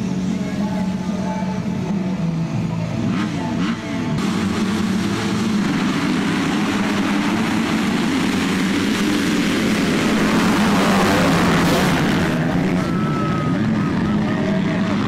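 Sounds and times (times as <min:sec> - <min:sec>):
motorcycle engines racing: 0:00.0 - 0:15.0
rushing noise: 0:00.0 - 0:15.0.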